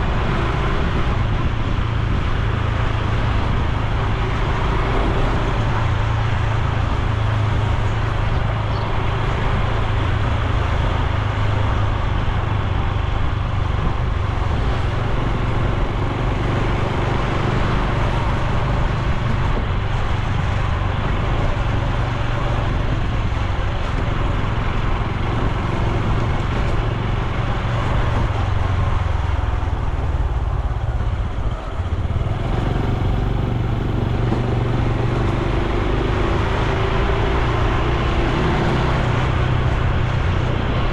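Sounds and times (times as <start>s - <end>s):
motorcycle engine running: 0.0s - 40.9s
road and wind rush: 0.0s - 40.9s.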